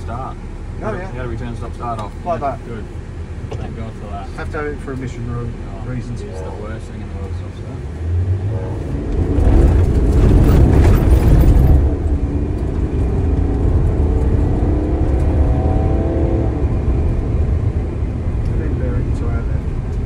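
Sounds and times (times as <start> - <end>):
engine accelerating hard: 3.6 - 20.0.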